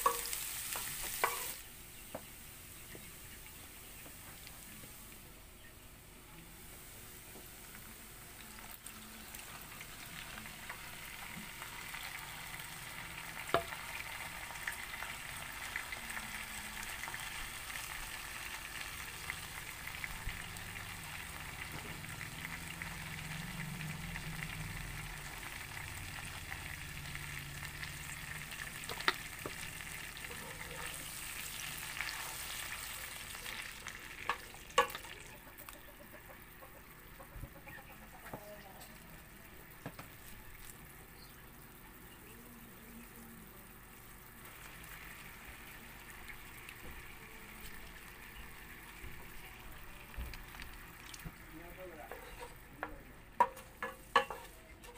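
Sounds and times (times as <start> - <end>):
garlic sizzling in hot oil: 0.0 - 5.2, 6.5 - 54.9.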